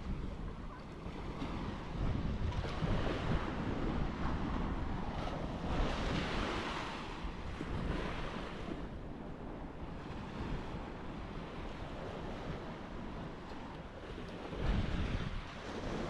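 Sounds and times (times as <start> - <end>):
sea surf washing in: 0.0 - 16.0
wind buffeting microphone: 0.0 - 16.0.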